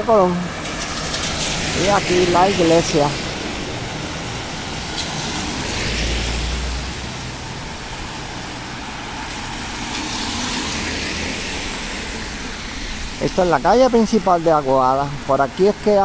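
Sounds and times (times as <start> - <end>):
cars passing on wet street: 0.0 - 16.0
steady traffic noise: 0.0 - 16.0.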